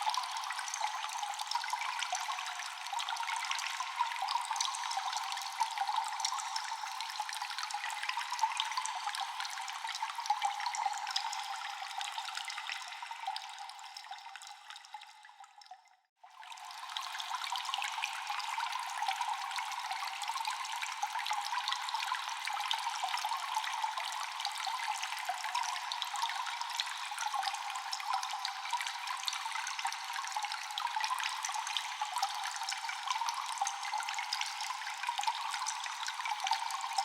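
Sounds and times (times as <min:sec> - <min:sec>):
water dripping in a cave: 0:00.0 - 0:37.0.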